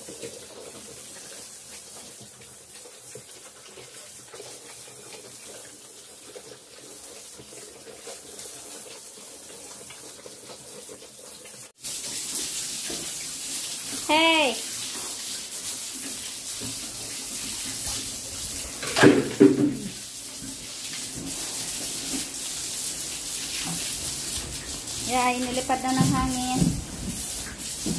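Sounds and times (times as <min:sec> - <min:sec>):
water spraying from hose: 0:00.0 - 0:27.9.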